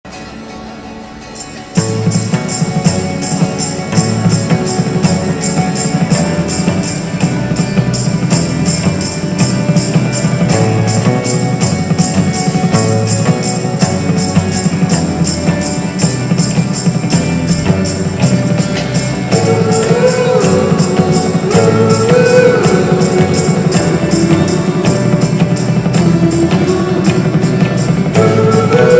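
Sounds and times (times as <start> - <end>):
band playing music: 0.3 - 28.9
jingling percussion: 1.2 - 28.9.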